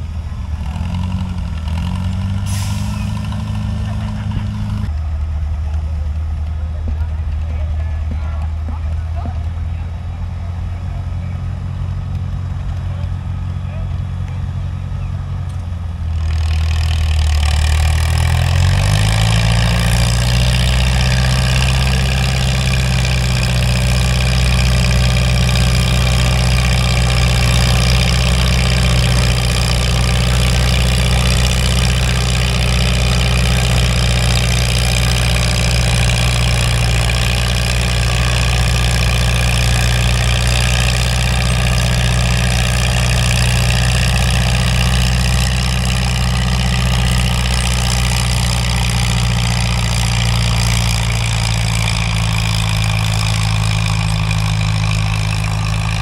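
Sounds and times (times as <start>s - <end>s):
tractor engine revving: 0.0s - 56.0s.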